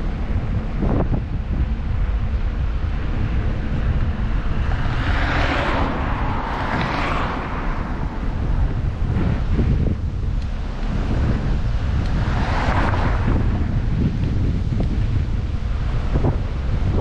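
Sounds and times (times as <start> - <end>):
low rumble: 0.0 - 17.0
wind buffeting microphone: 0.0 - 17.0
passing vehicle tyre hiss: 3.1 - 16.8.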